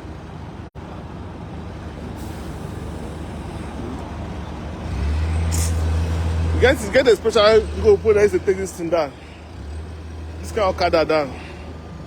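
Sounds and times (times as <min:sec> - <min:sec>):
outdoor noise: 0:00.0 - 0:12.0
vehicle engine rumbling: 0:00.0 - 0:12.0.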